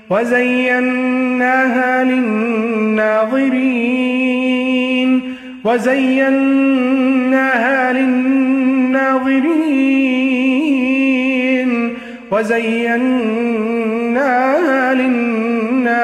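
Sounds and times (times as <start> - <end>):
person chanting melodically: 0.0 - 16.0.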